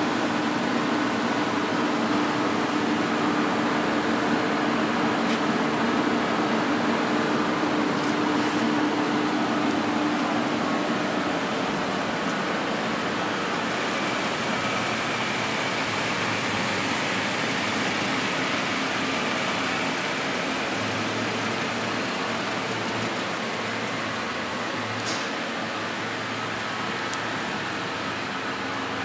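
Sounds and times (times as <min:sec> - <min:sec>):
industrial machinery humming: 0:00.0 - 0:29.0.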